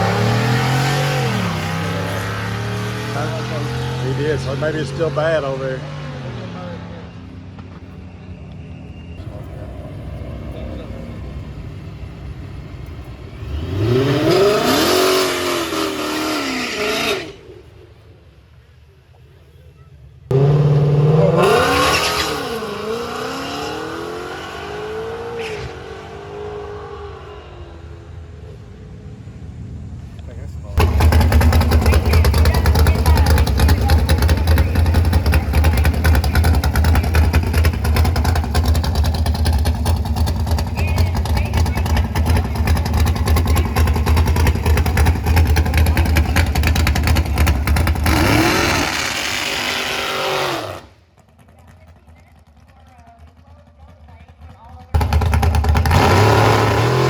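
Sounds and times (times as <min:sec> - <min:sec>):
drag racing engine at full throttle: 0:00.0 - 0:17.9, 0:20.3 - 0:57.0.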